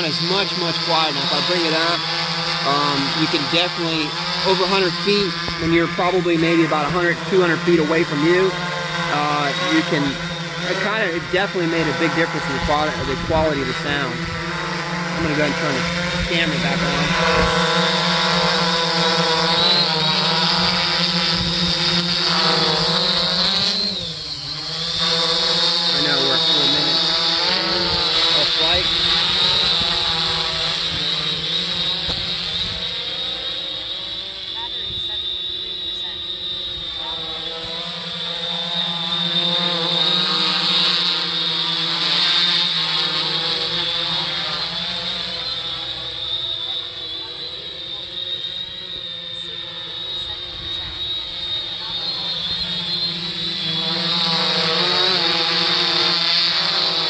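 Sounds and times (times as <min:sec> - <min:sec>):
quadcopter hovering hum: 0:00.0 - 0:57.0.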